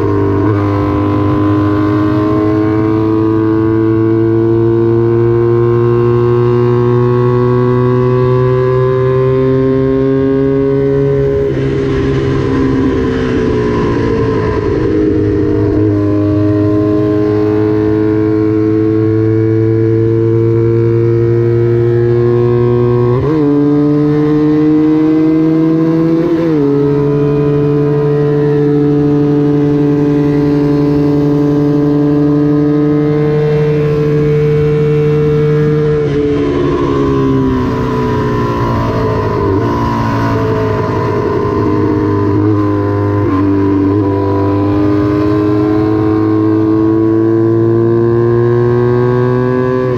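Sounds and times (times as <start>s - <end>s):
racing motorcycle engine revving: 0.0s - 49.9s.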